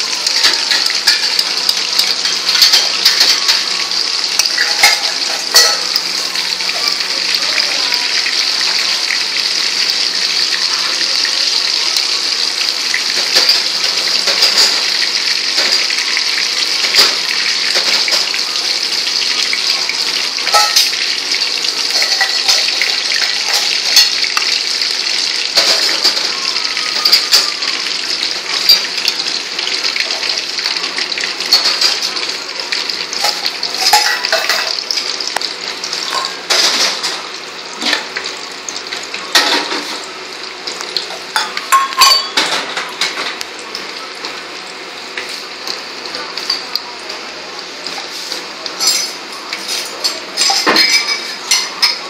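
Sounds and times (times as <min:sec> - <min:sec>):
hot oil sizzling: 0:00.0 - 0:52.0.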